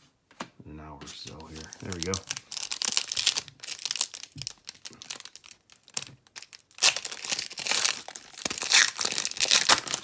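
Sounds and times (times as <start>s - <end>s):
foil wrapper crinkling and tearing: 1.4s - 10.0s.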